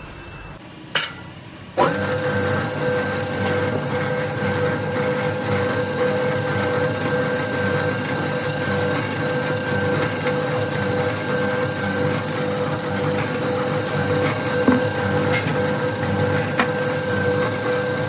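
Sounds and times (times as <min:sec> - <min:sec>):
sand mixer whining: 0:01.7 - 0:18.0.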